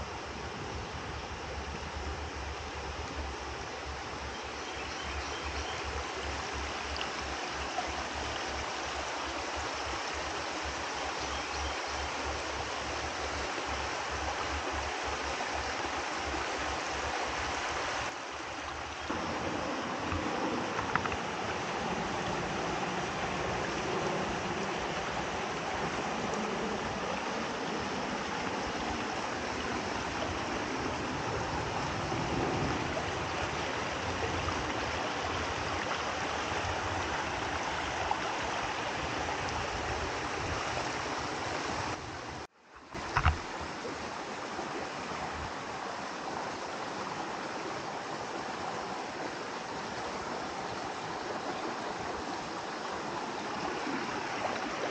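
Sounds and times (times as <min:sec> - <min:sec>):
creek water flowing over rocks: 0:00.0 - 0:54.9.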